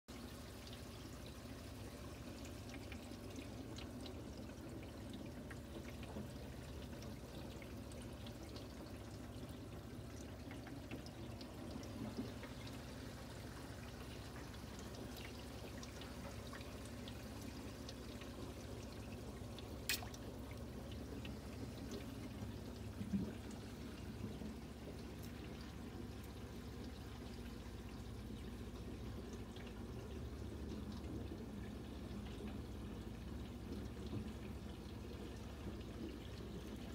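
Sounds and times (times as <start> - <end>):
water trickling into aquarium: 0.1 - 36.9.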